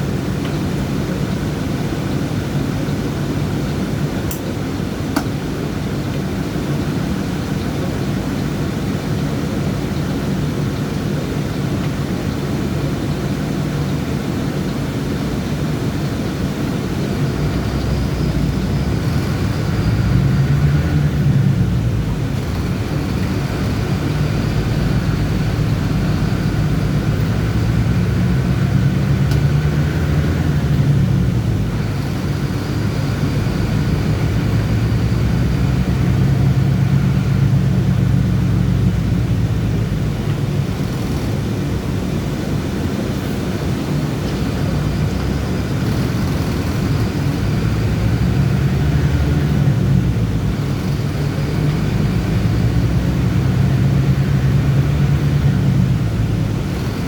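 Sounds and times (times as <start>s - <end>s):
diesel bus engine accelerating: 0.0s - 57.0s.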